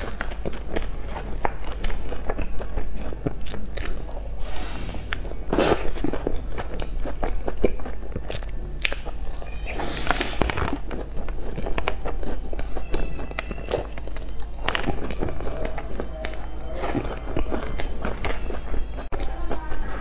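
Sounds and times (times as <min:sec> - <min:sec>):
biting and chewing pastry: 0:00.0 - 0:20.0.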